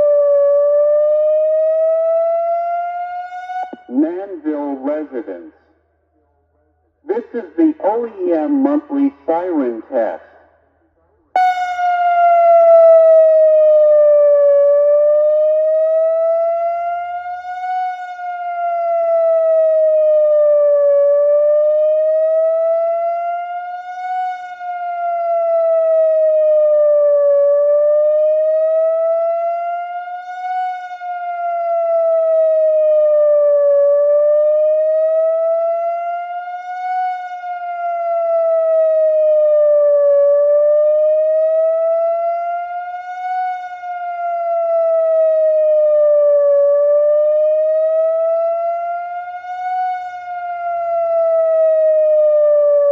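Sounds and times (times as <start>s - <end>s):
warning siren wailing: 0.0s - 5.7s, 11.3s - 52.9s.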